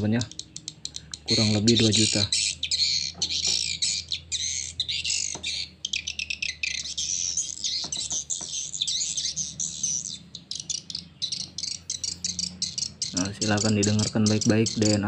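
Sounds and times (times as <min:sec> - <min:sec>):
high overlapping bird chirps: 0:00.0 - 0:15.0.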